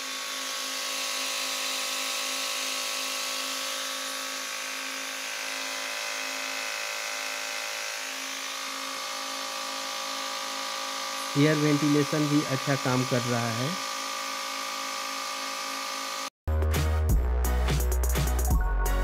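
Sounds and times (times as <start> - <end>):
air compressor motor hum: 0.0 - 16.3.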